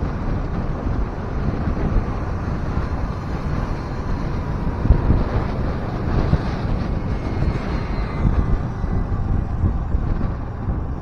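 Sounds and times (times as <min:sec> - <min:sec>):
scooter ride noise: 0:00.0 - 0:11.0
wind buffeting microphone: 0:00.0 - 0:11.0.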